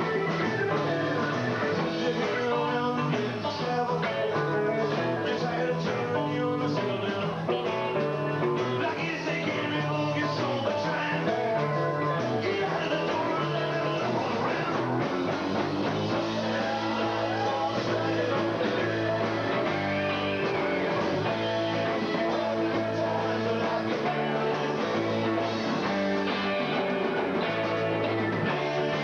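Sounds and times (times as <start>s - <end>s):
drum kit: 0.0s - 29.0s
electric guitar: 0.0s - 29.0s
walking bass line: 0.0s - 29.0s.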